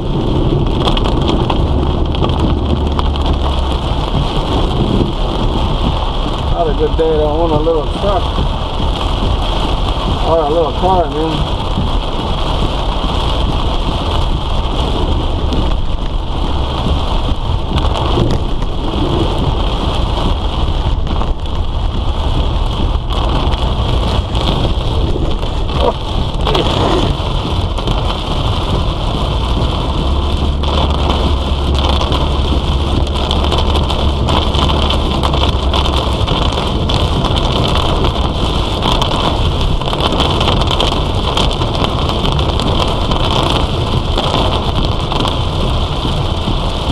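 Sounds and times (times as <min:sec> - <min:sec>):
engine and road rumble: 0:00.0 - 0:46.9
heavy rain on a vehicle: 0:00.0 - 0:46.9.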